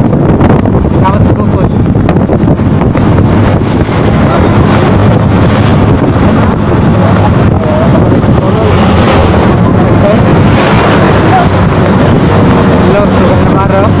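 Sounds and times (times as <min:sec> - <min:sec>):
motorcycle engine drone: 0:00.0 - 0:14.0
wind buffeting microphone: 0:00.0 - 0:14.0.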